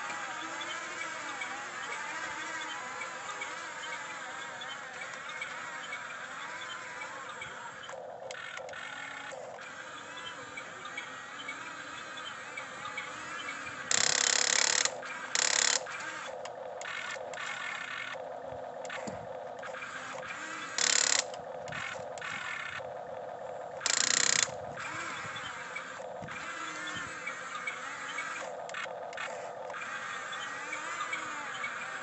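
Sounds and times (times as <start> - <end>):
small motors and gears whirring: 0.0 - 32.0.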